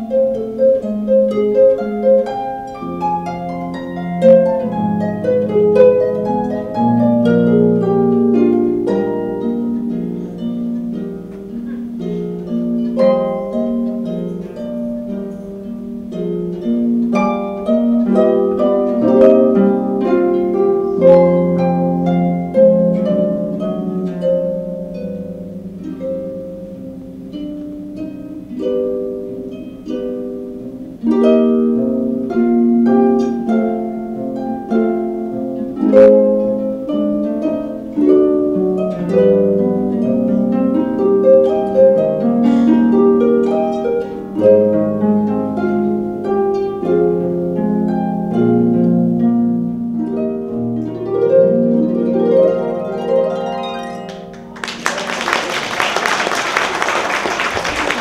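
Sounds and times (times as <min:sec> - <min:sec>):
harp playing: 0:00.0 - 0:58.0.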